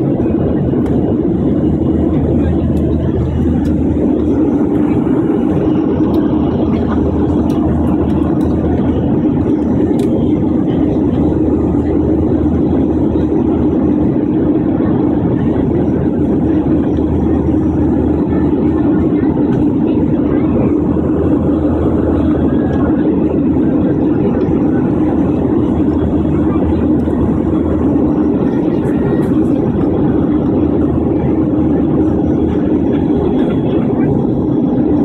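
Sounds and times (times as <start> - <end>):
jet engine and airflow noise: 0.0 - 35.0
low hum: 0.0 - 35.0.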